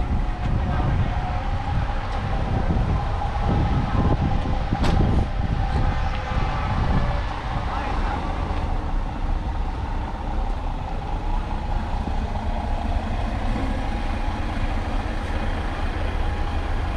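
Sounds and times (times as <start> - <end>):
diesel truck engine idling: 0.0 - 16.9.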